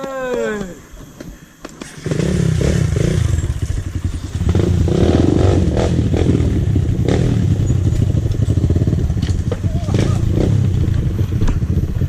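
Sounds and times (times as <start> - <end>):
dirt bike engine running: 1.3 - 12.0.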